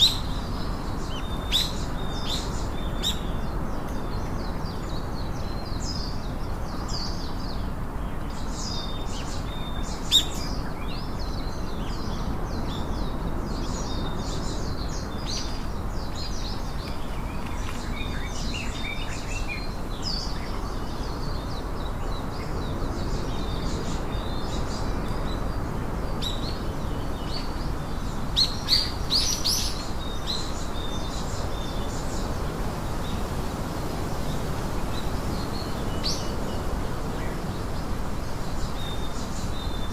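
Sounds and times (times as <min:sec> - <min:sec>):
low background hiss: 0:00.0 - 0:39.9
songbirds chirping: 0:00.0 - 0:39.9.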